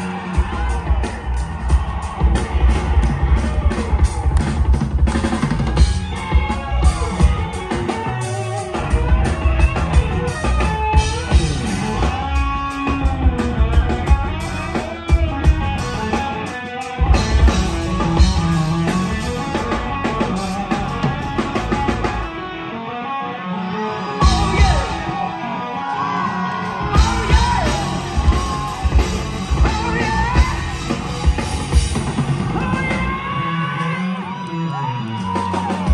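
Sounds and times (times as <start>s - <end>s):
bass guitar: 0.0s - 35.9s
drums: 0.0s - 35.9s.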